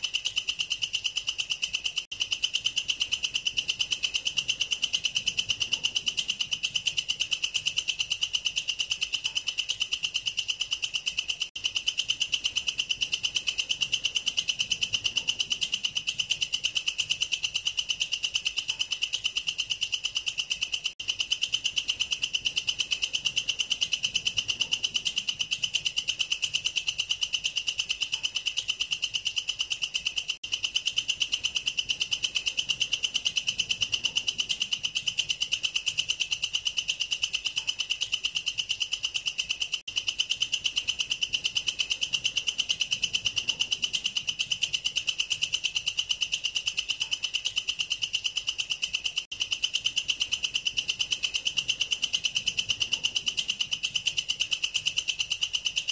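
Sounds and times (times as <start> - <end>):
katydid trilling: 0.0 - 55.9.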